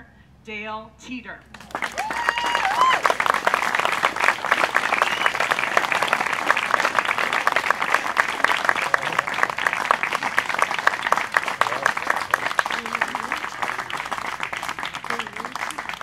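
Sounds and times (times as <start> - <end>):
audience applauding: 1.5 - 16.0.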